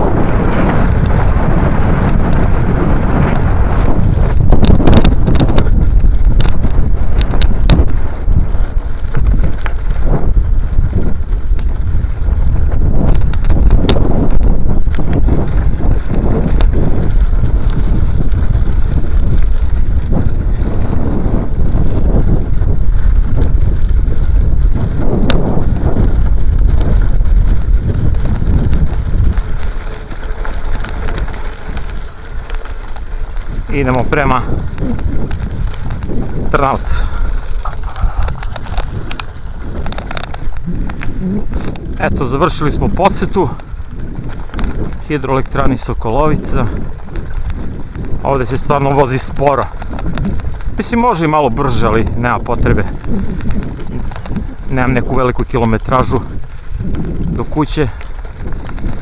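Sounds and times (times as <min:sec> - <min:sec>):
stones knocking under wheels: 0:00.0 - 0:59.0
wind buffeting microphone: 0:00.0 - 0:59.0.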